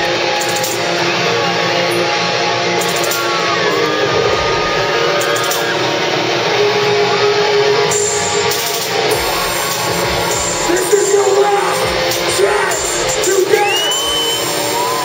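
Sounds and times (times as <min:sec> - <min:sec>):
live heavy rock band: 0:00.0 - 0:15.0
sliding guitar notes: 0:00.0 - 0:15.0.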